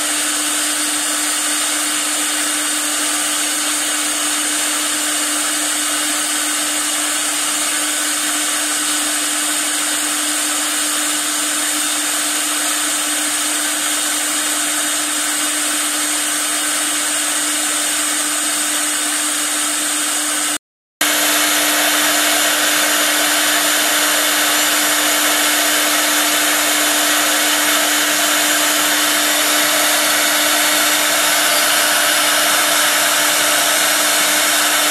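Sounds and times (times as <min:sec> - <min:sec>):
router spindle cutting wood: 0:00.0 - 0:34.9.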